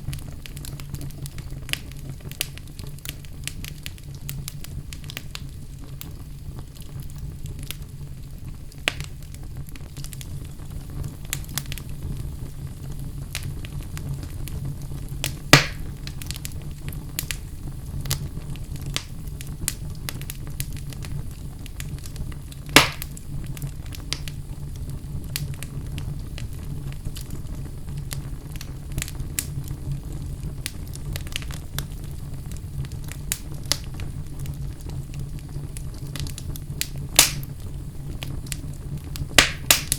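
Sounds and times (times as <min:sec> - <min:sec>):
fire crackling and popping: 0:00.0 - 0:39.9
fire rumbling in fireplace: 0:00.0 - 0:39.9.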